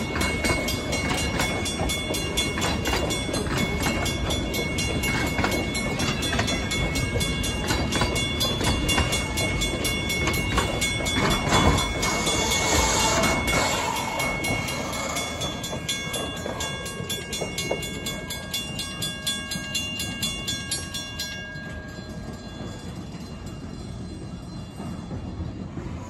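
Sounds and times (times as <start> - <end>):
level-crossing bell ringing: 0.0 - 25.7
train carriages rolling on rails: 0.0 - 26.0.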